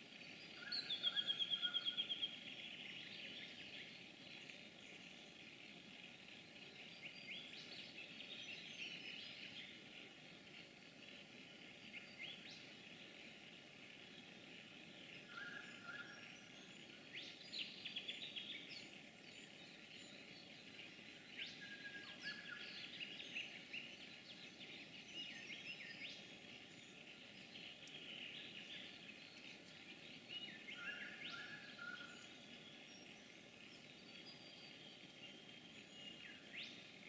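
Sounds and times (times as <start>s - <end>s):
small birds chirping and trilling: 0.0s - 37.0s
steady low hiss: 0.0s - 37.0s.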